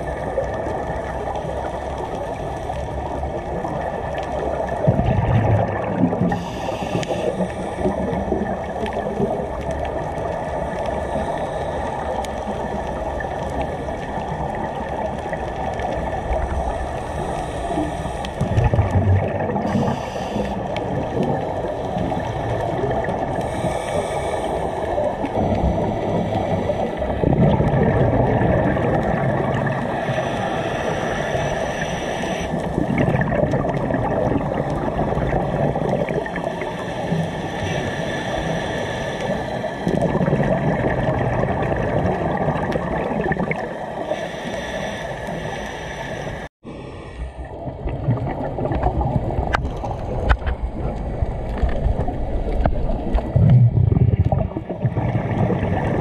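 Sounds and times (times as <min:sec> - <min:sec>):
regulator bubbles gurgling: 0:00.0 - 0:56.0
underwater water rush: 0:00.0 - 0:56.0.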